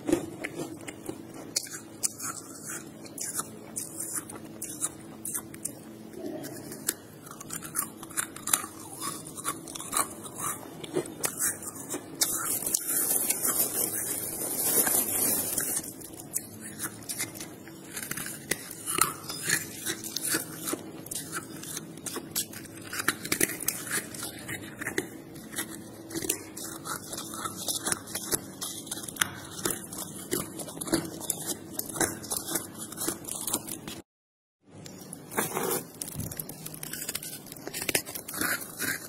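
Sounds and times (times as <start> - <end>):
frost being crunched and chewed: 0.0 - 34.0, 34.8 - 39.0.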